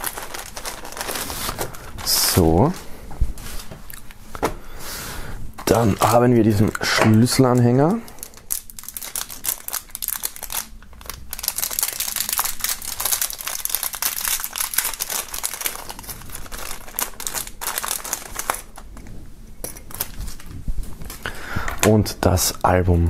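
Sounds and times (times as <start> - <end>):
plastic wrapping crinkling: 0.0 - 4.4, 5.6 - 21.9.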